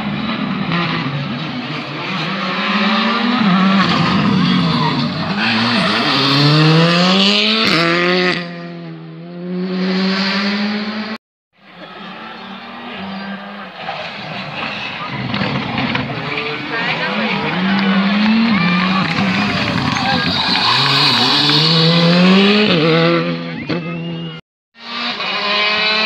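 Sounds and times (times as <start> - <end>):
rally car engine accelerating: 0.0 - 26.0
rally car engine approaching: 0.0 - 26.0.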